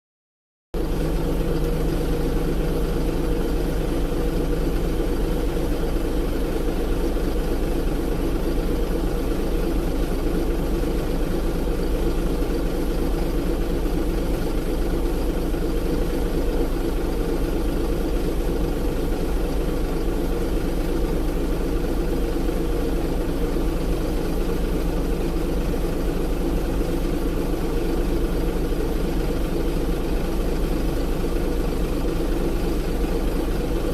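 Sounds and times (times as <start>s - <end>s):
excavator engine running: 0.8s - 33.9s.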